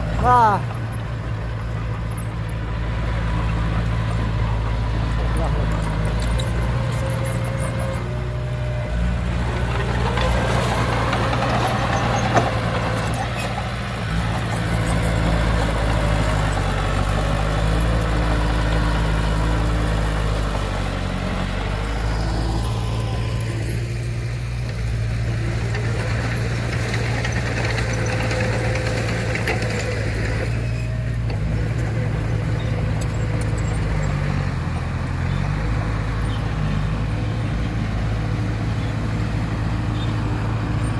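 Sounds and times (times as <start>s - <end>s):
diesel machinery engine running: 0.0s - 40.9s.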